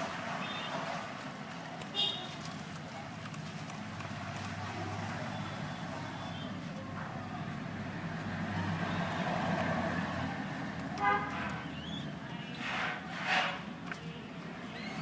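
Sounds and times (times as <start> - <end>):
steady traffic rumble: 0.0 - 15.0.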